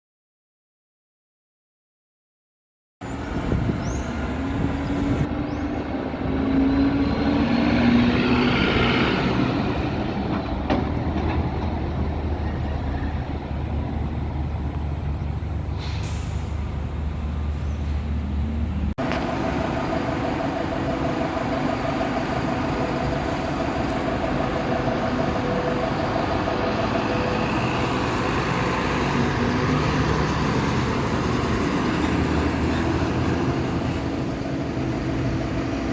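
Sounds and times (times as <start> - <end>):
heavy engines droning: 3.0 - 35.9.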